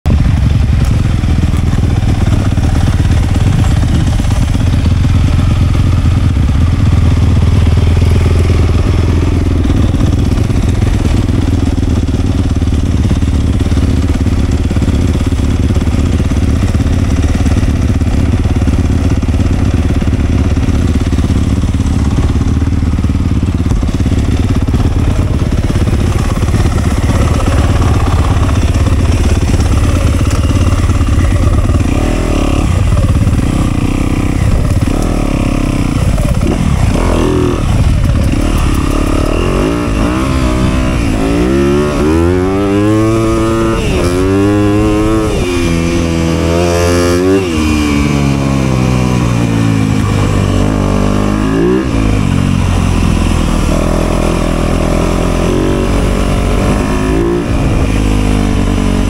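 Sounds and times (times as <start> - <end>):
dirt bike engine running: 0.1 - 59.0.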